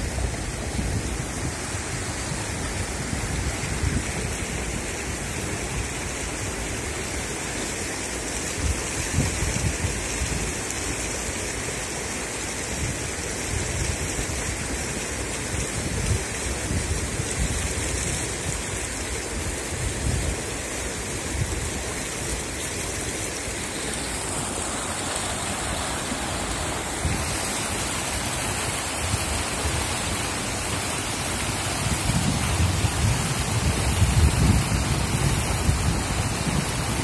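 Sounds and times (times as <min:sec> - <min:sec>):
water rushing over weir: 0:00.0 - 0:37.0.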